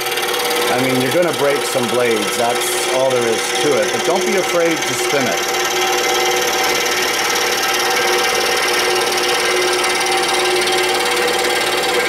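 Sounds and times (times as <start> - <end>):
saw motor hum: 0.0 - 12.0
scroll saw cutting wood: 0.0 - 12.0.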